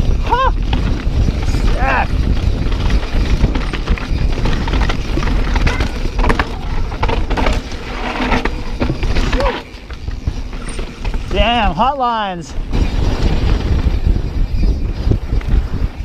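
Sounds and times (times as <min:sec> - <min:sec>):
bike rattling and knocking: 0:00.0 - 0:16.0
wind on microphone: 0:00.0 - 0:16.0.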